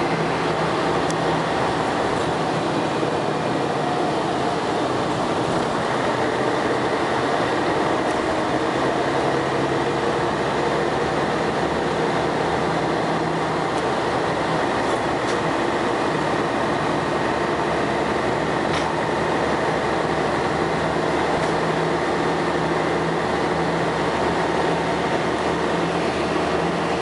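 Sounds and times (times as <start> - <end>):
bus diesel engine running: 0.0 - 27.0
road noise: 0.0 - 27.0.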